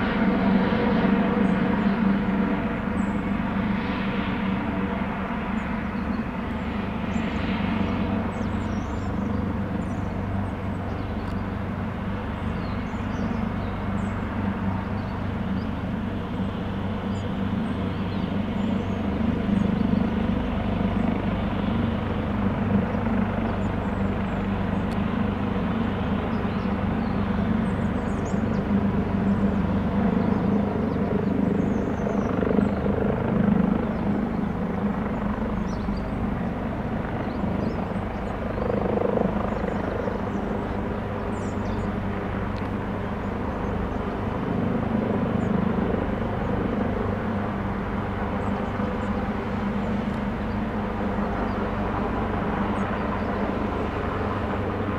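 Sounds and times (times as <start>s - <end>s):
helicopter rotor and turbines: 0.0s - 54.9s.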